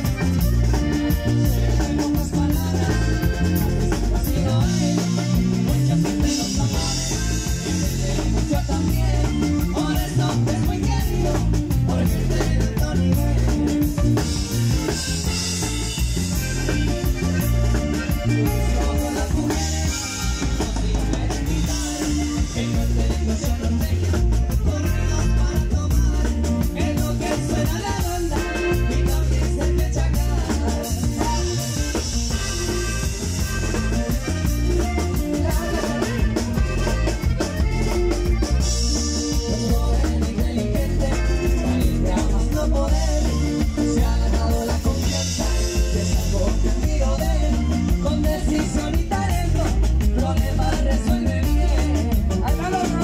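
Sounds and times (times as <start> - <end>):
acoustic guitar: 0.0 - 53.0
button accordion: 0.0 - 53.0
drum kit: 0.0 - 53.0
electric bass: 0.0 - 53.0
live band music: 0.0 - 53.0
man singing: 0.0 - 53.0.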